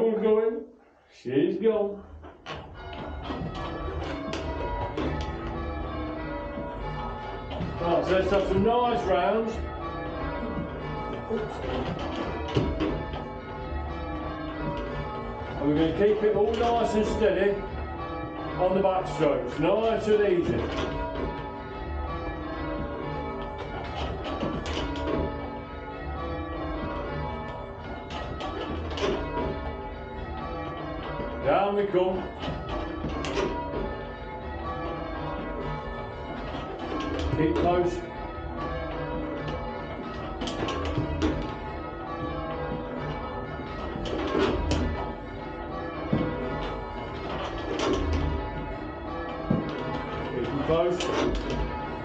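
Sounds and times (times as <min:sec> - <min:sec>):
church bells ringing rounds: 0:00.0 - 0:52.0.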